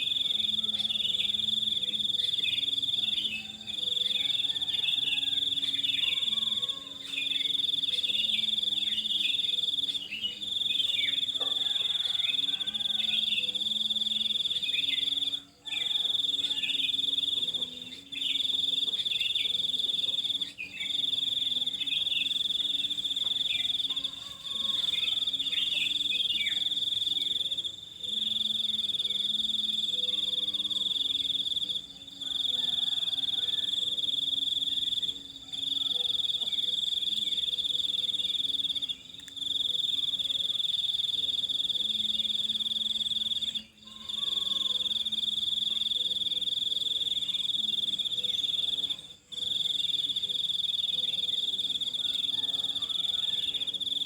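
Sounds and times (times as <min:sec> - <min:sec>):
high-pitched insect trill: 0:00.0 - 0:54.0.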